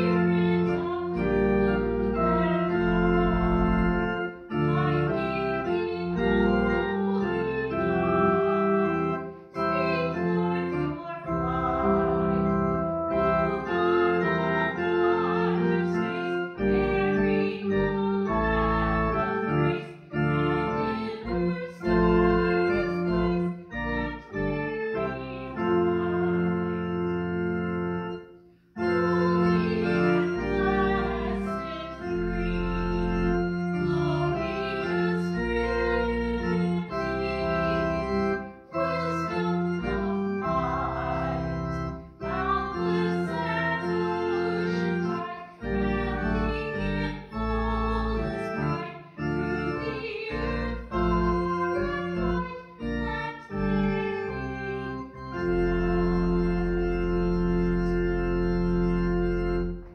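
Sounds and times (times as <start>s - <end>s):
church organ playing: 0.0s - 59.9s.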